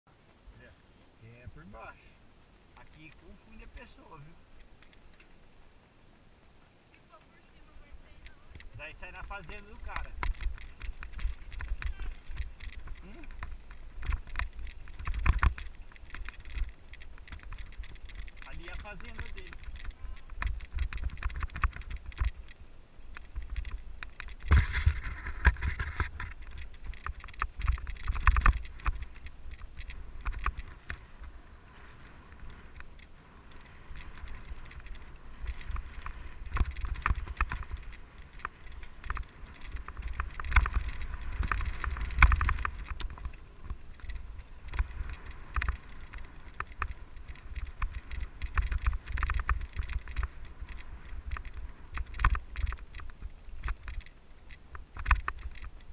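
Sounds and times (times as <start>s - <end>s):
mountain bike rolling on dirt trail: 0.1s - 55.9s
bike rattling and knocking: 8.2s - 31.2s, 32.3s - 55.9s.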